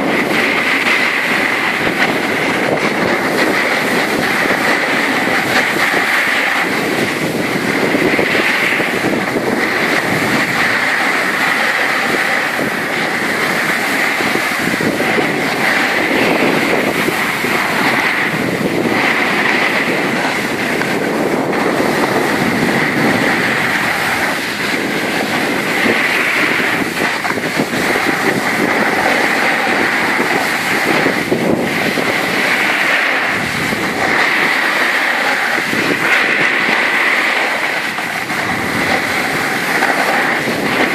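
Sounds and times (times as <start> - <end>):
edges scraping over icy snow: 0.0 - 40.9.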